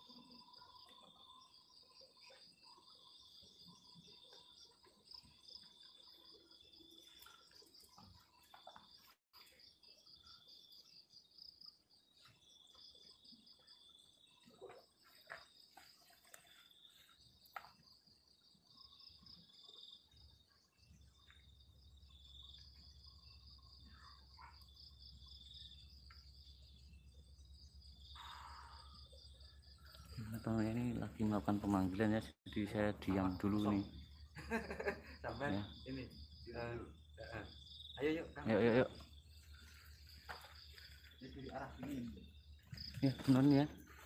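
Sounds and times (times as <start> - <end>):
crickets trilling: 0.0 - 44.0.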